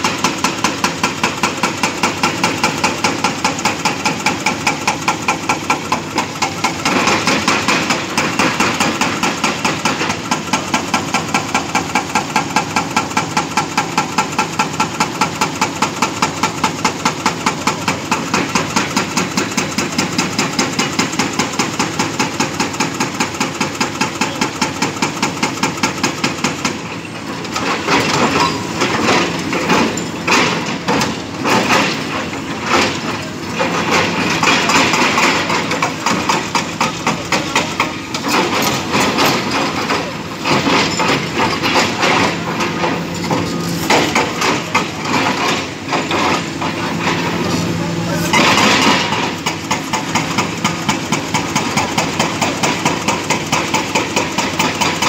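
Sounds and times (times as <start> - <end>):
excavator diesel engine: 0.0 - 55.0
hydraulic breaker hammering concrete: 0.0 - 55.0.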